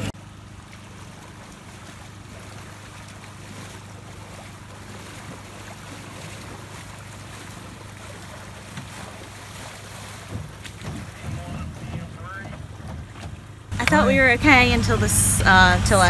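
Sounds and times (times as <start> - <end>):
steady low hum: 0.0 - 16.0
water sloshing and splashing: 0.0 - 16.0.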